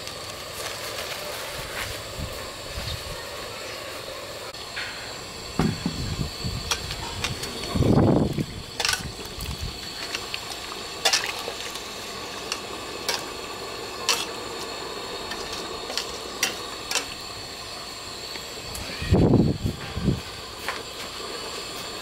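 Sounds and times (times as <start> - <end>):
steady hiss from pot: 0.0 - 22.0.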